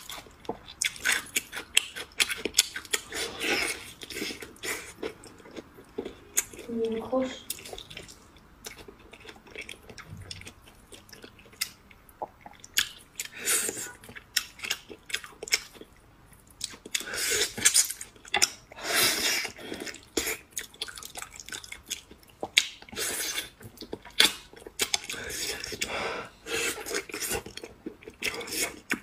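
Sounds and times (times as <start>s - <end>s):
wet chewing and lip-smacking: 0.0s - 6.7s, 7.5s - 25.9s, 26.5s - 29.0s.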